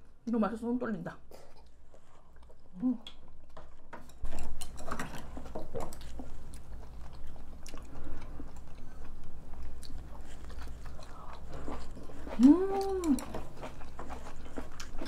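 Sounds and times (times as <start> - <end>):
chewing and mouth sounds: 1.3 - 15.0.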